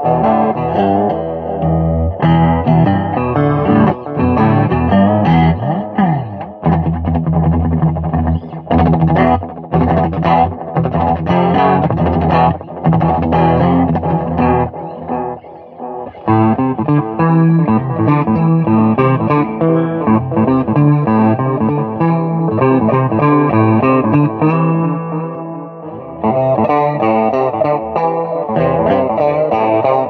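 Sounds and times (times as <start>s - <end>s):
distorted electric guitar music: 0.0s - 30.0s.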